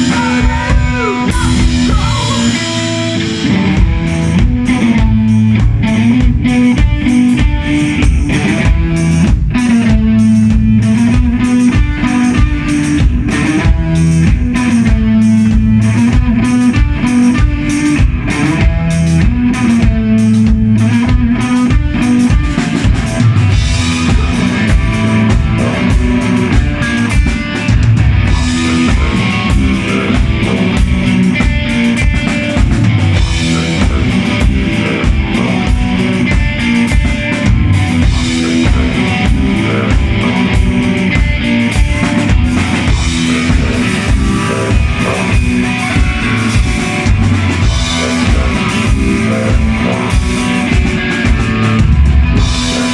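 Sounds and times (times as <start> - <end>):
rock band playing: 0.0 - 52.9.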